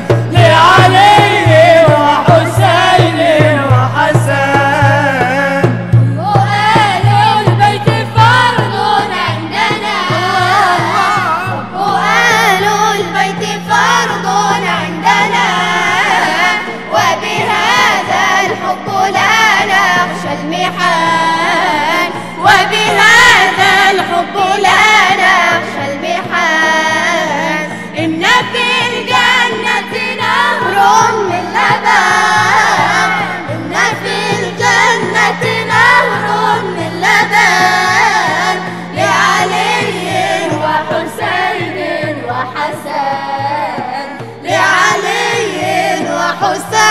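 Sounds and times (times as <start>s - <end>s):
frame drum beating: 0.0s - 27.3s, 28.0s - 46.9s
group singing in unison: 0.0s - 46.9s.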